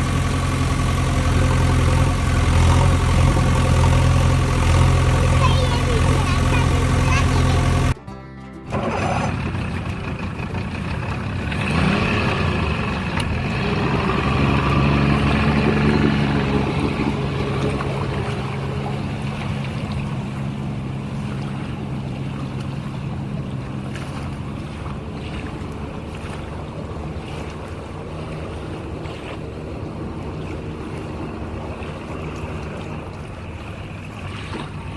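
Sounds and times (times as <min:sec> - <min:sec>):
engine-like hum: 0:00.0 - 0:34.9.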